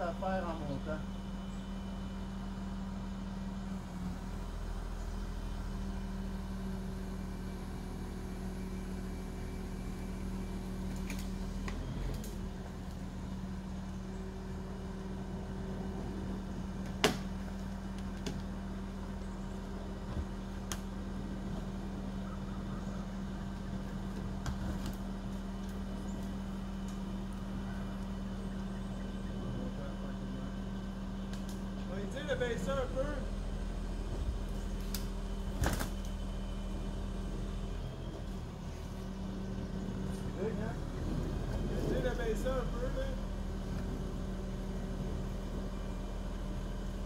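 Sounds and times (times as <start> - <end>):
crane engine humming: 0.0 - 47.0.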